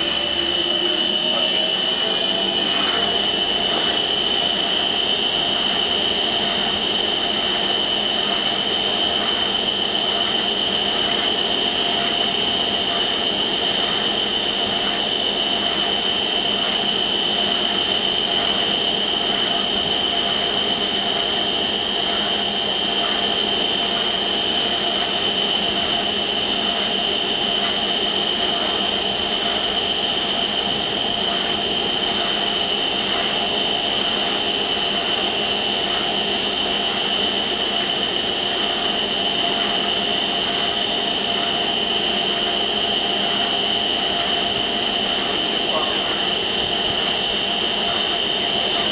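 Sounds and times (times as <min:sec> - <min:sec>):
dense mechanical drone: 0:00.0 - 0:48.9
high machine whine: 0:00.0 - 0:48.9.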